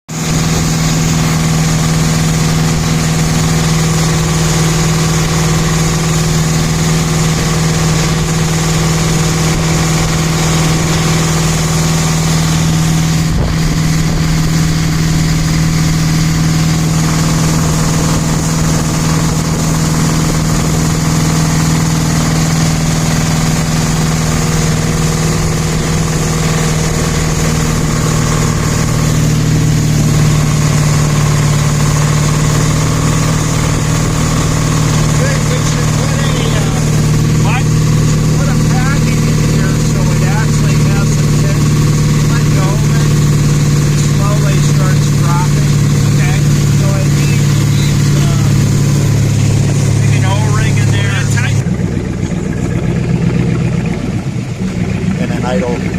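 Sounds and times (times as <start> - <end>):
boat engine idling: 0.1 - 55.9.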